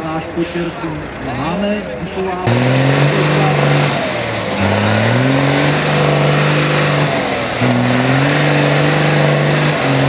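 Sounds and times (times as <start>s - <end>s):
diesel truck engine under load: 0.0s - 10.0s.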